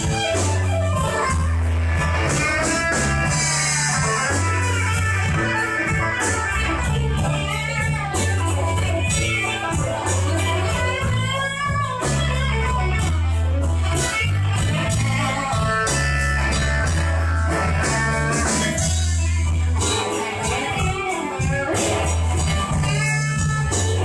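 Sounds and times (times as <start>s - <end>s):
bass line: 0.0s - 24.0s
blues lead guitar: 0.0s - 24.0s
steady drum beat: 0.0s - 24.0s.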